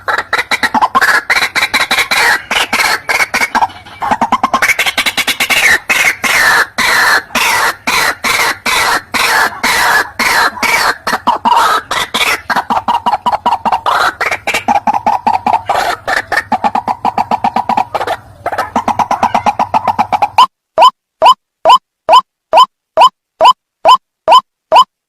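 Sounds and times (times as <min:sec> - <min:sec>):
waterhen calling harshly: 0:00.0 - 0:24.9.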